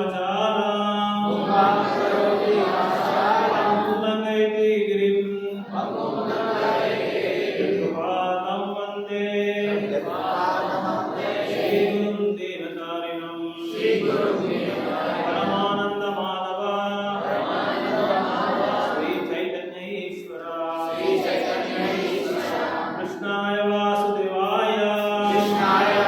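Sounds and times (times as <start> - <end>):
voices chanting a prayer: 0.0 - 26.0.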